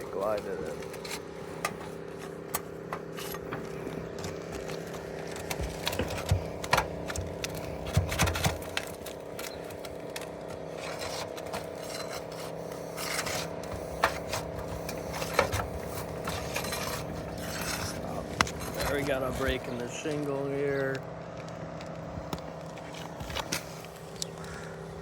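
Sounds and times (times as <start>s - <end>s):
shingles clicking and cracking: 0.0s - 24.8s
tool scraping under roof shingles: 0.0s - 24.9s
steady hum: 0.0s - 25.0s.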